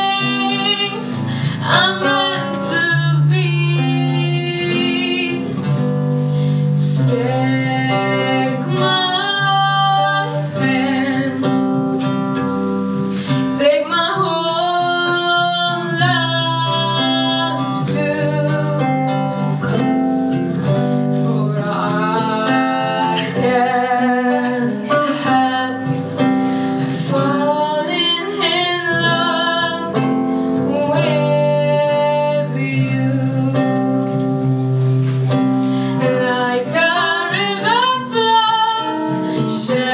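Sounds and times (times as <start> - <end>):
woman singing with vibrato: 0.0 - 12.6, 13.2 - 34.8, 35.4 - 39.9
instrumental accompaniment: 0.0 - 39.9.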